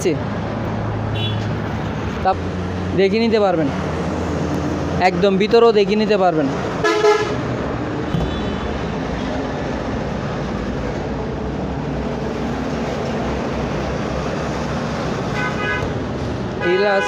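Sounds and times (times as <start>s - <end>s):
background traffic rumble: 0.0s - 17.0s.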